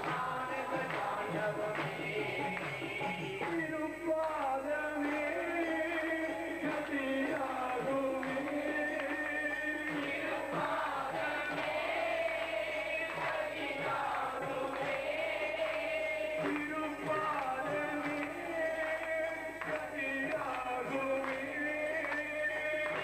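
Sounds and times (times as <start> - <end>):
group singing in unison: 0.0 - 3.7, 4.9 - 23.0.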